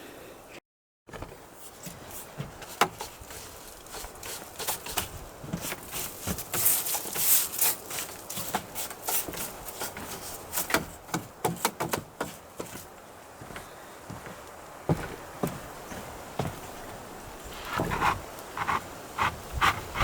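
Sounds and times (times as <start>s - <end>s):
footsteps on wooden deck boards: 1.1s - 20.0s.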